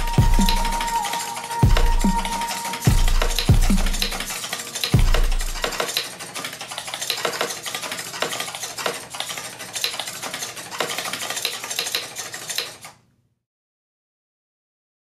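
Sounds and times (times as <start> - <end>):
pushbuttons clicking rapidly: 0.0 - 12.9.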